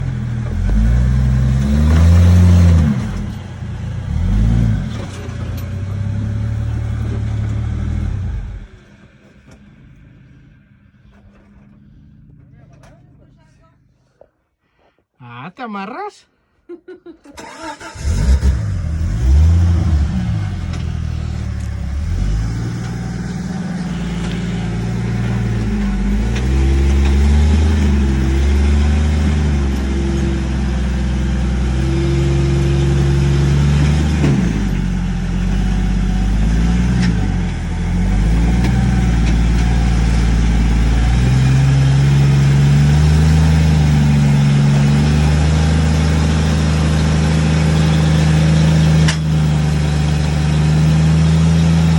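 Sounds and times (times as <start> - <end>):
engine revving: 0.0 - 14.1, 17.3 - 51.9.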